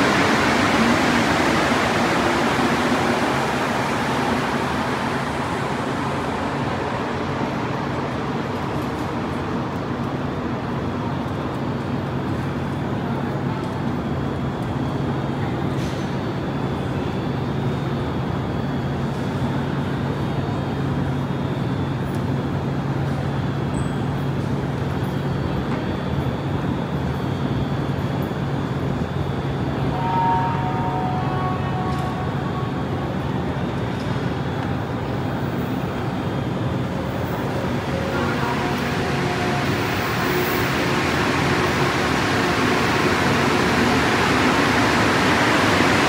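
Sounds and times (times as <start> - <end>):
metro platform hum and rumble: 0.0 - 46.0.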